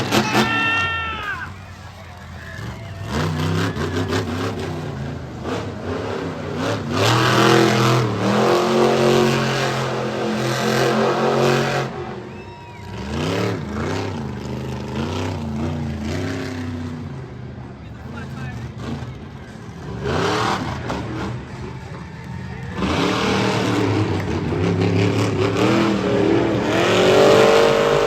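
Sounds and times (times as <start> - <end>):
truck engine revving hard: 0.0 - 28.0.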